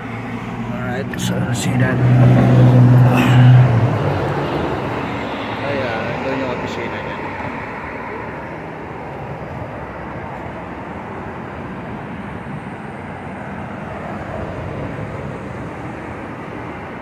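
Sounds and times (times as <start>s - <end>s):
street traffic rushing: 0.0s - 17.0s.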